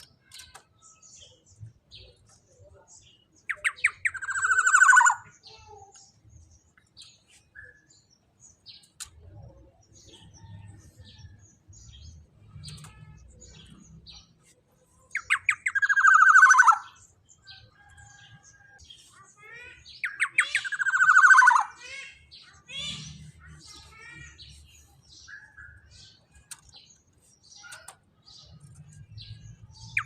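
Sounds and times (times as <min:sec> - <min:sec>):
oriole chirps and calls: 0:00.0 - 0:30.0.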